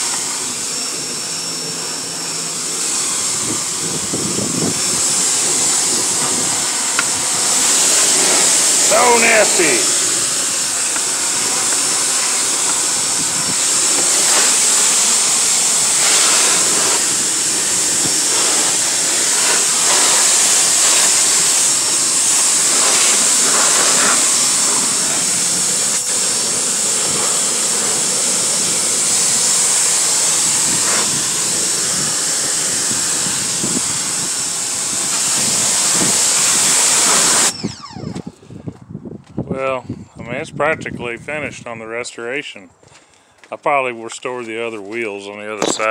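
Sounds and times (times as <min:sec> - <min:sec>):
pressure washer spraying metal: 0:00.0 - 0:38.2.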